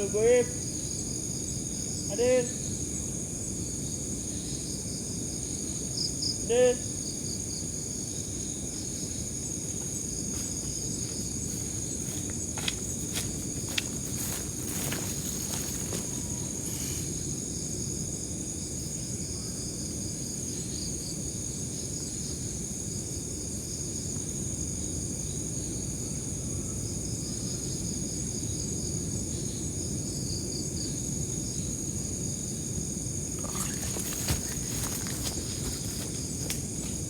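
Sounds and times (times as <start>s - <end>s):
insect chirping trill: 0.0s - 37.0s
insects droning: 0.0s - 37.0s.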